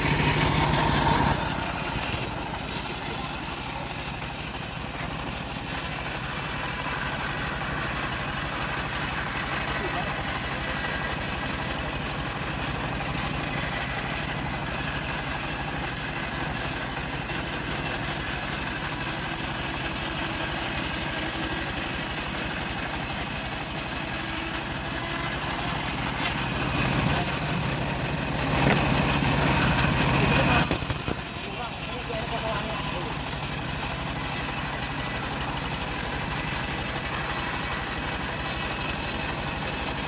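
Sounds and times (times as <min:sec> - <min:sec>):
small engine running: 0:00.0 - 0:40.0.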